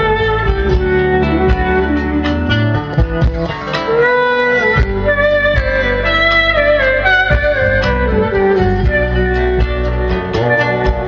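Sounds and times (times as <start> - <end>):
drum beat: 0.0 - 11.0
steady bass: 0.0 - 11.0.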